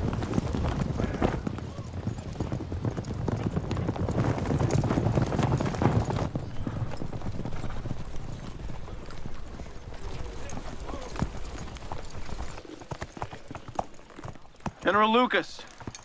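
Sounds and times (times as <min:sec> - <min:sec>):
horses' hooves clopping: 0:00.0 - 0:16.0.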